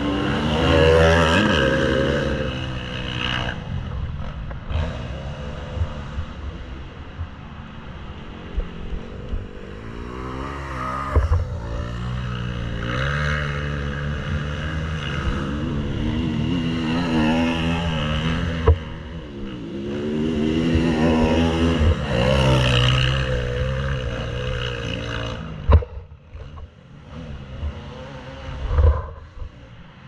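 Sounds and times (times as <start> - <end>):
motocross bike engine revving: 0.0 - 6.4, 9.0 - 30.0.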